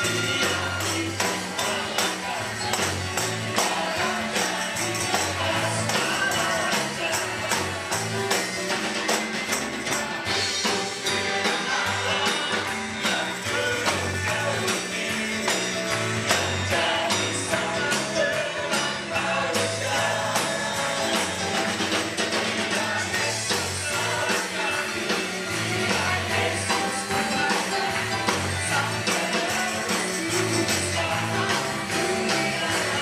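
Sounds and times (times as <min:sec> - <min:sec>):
worship team singing: 0:00.0 - 0:08.6, 0:09.5 - 0:33.0
band with steady beat: 0:00.0 - 0:33.0
tambourines jingling: 0:00.0 - 0:33.0.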